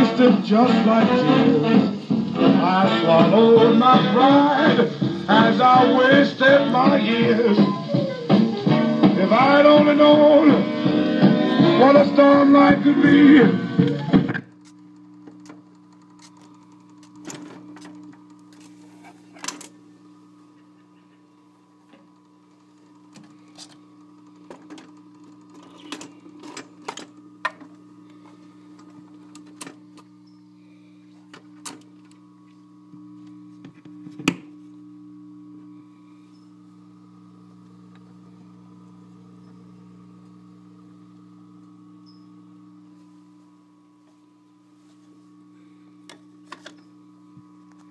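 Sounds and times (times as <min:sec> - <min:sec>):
record player hum: 0:00.0 - 0:47.9.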